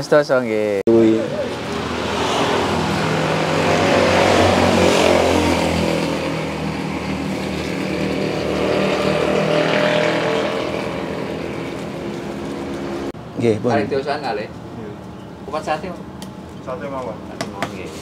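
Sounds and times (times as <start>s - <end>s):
traffic engines passing: 0.0s - 18.0s.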